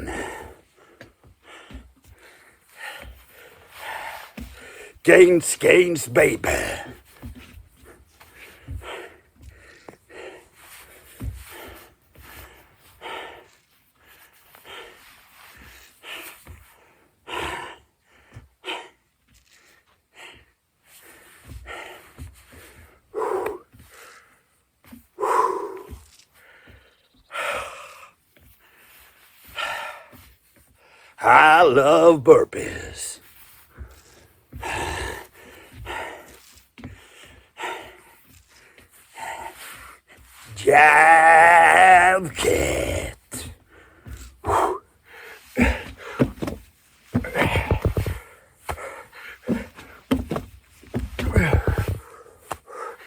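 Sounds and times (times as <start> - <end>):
man panting hard: 0.0 - 5.8, 7.8 - 19.2, 20.0 - 31.2, 33.7 - 40.9, 42.1 - 46.6, 47.2 - 53.0
man breathing heavily: 0.0 - 31.2, 32.6 - 40.9, 41.8 - 53.0.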